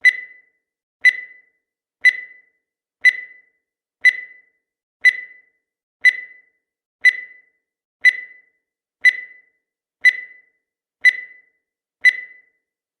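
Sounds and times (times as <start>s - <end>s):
countdown timer beeps: 0.0s - 12.6s.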